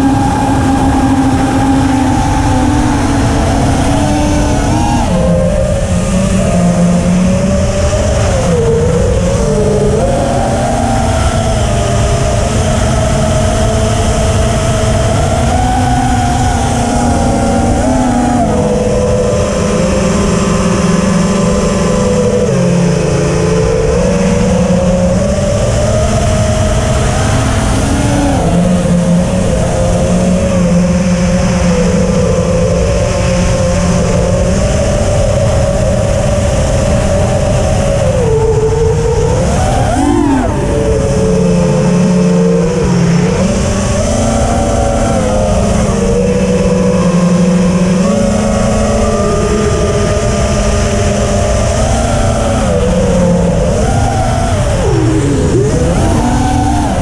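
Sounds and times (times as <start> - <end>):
drone motors whining: 0.0 - 57.0
steady low rumble: 0.0 - 57.0.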